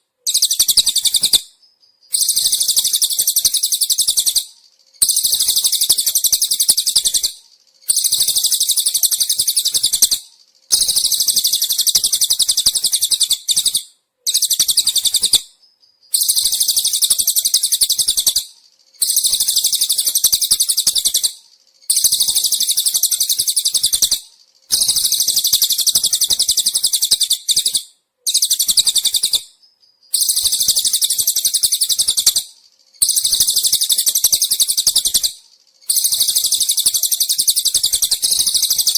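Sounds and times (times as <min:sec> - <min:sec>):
bird high-pitched trill: 0:00.2 - 0:38.9.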